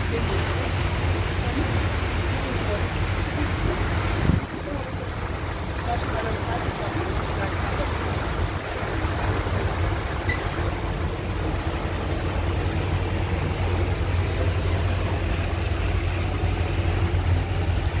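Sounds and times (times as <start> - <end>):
ship engine humming: 0.0 - 18.0.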